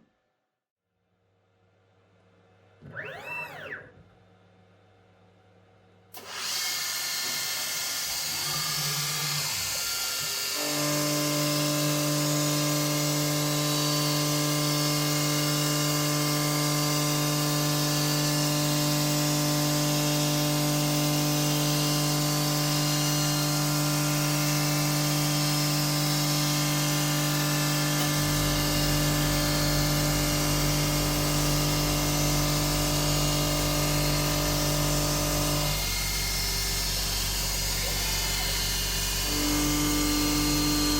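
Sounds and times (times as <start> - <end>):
milling machine spindle whine: 2.8 - 3.8, 6.2 - 40.9.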